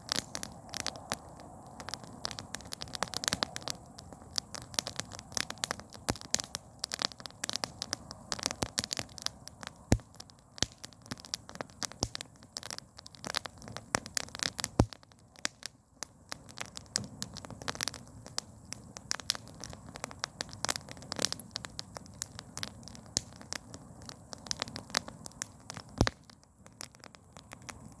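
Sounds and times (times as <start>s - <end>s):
campfire crackling: 0.0s - 28.0s
low rush of flames: 0.0s - 28.0s.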